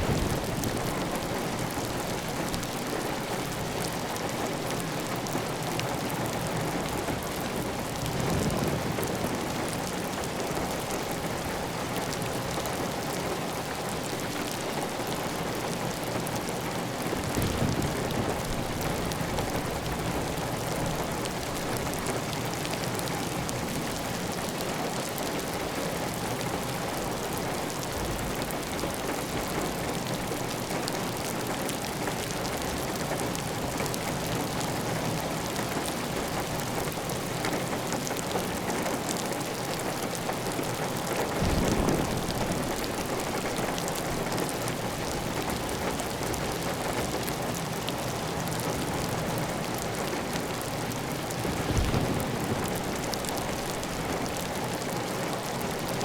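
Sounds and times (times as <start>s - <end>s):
heavy rain on a tile roof: 0.0s - 56.0s.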